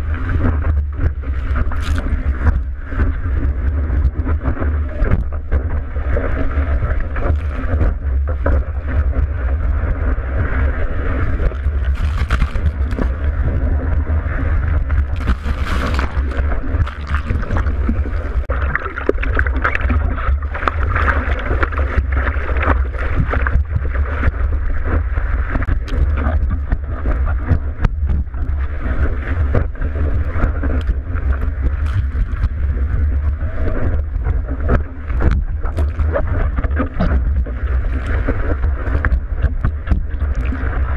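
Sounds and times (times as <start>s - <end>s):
muffled surf rumble: 0.0s - 40.9s
water splashes: 0.0s - 40.9s
wind buffeting microphone: 0.0s - 40.9s.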